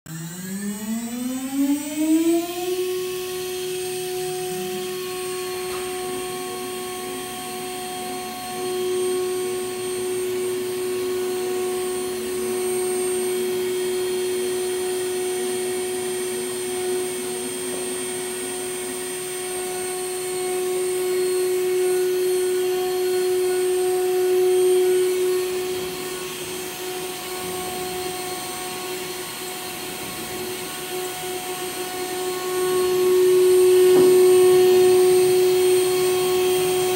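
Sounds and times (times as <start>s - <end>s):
rough machine noise: 0.1s - 36.9s
router spindle whine: 0.1s - 36.9s.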